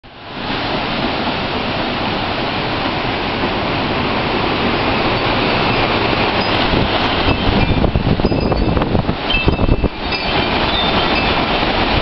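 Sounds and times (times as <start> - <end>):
rain: 0.0 - 12.0
strong wind rushing through trees: 0.0 - 12.0.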